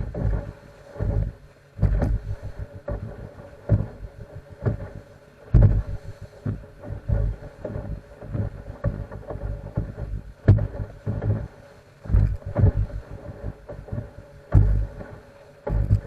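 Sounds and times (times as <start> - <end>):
boat engine drone: 0.0 - 16.0
boat hull thumping on waves: 0.0 - 16.0
wind on microphone: 0.0 - 16.0.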